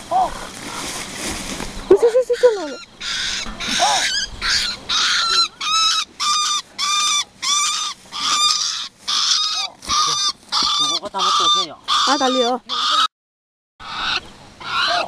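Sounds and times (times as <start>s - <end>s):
bird honking calls: 1.8s - 13.1s, 13.8s - 15.0s.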